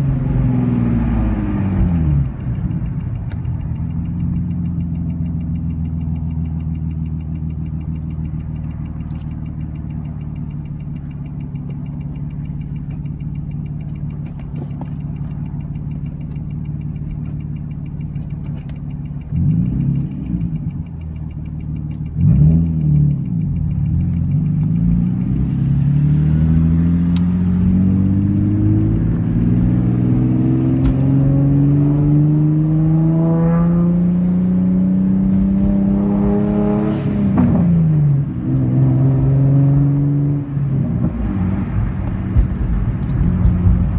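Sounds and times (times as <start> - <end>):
exhaust snaps: 0.0 - 33.8, 40.5 - 43.9
car engine revving: 0.0 - 43.9.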